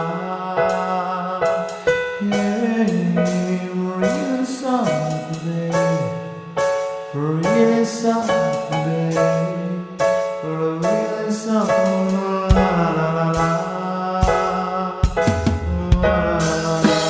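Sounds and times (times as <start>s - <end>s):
keyboard accompaniment: 0.0s - 17.0s
person singing sliding melody: 0.0s - 17.0s.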